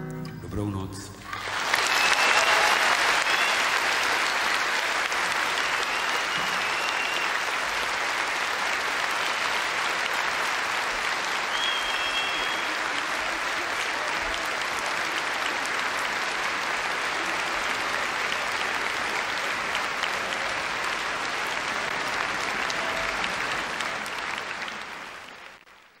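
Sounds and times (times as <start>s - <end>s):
audience applauding: 1.2s - 26.0s.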